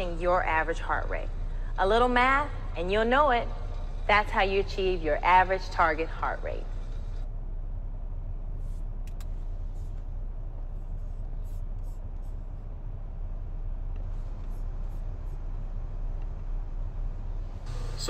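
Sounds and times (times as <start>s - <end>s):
low background hum with hiss: 0.0s - 18.0s.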